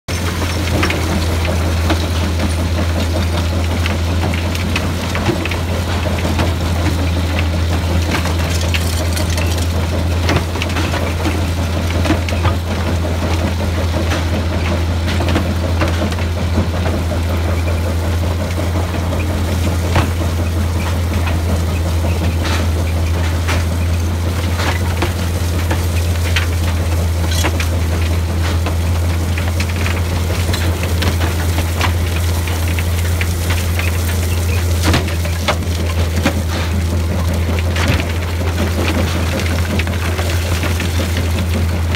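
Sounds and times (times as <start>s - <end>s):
low machinery hum: 0.1s - 41.9s.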